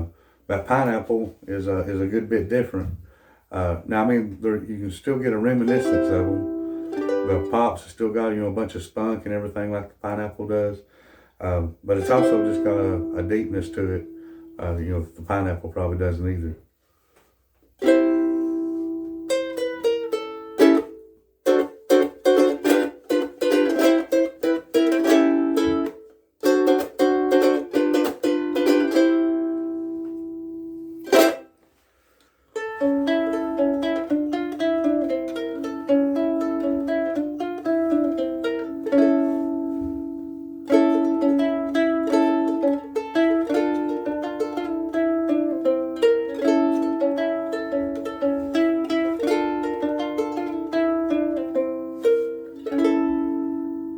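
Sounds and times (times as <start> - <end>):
ukulele strummed chords: 0.0 - 10.7, 11.7 - 16.6, 17.8 - 31.6, 32.6 - 53.9.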